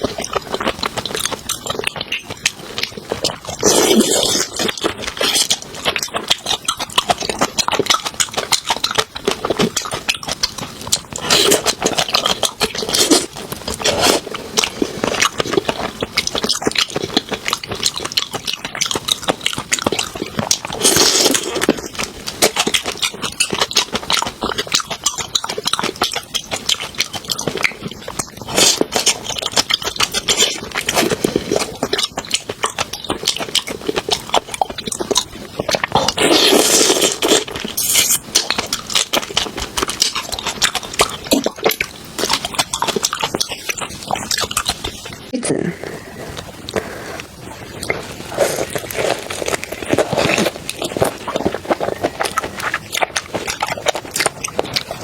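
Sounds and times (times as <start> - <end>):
wet chewing and smacking: 0.0 - 45.4, 46.2 - 55.0
biting or slurping: 0.0 - 55.0.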